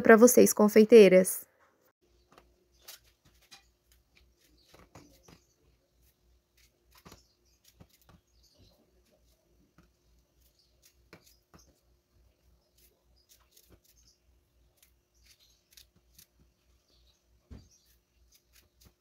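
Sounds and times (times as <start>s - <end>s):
knife cutting strawberries: 2.3s - 16.7s, 17.5s - 19.0s.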